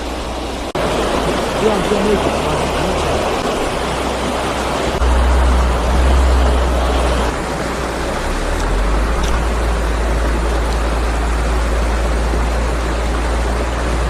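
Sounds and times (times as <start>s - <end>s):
stream water rushing: 0.0s - 14.0s
low rumble: 2.4s - 14.0s.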